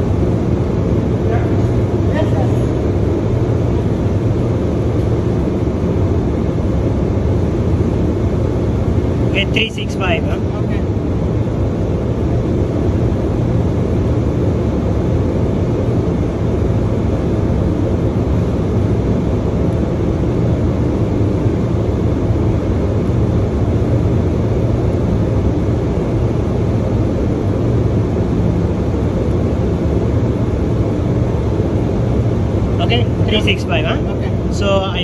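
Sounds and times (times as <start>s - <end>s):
machinery drone: 0.0s - 35.0s.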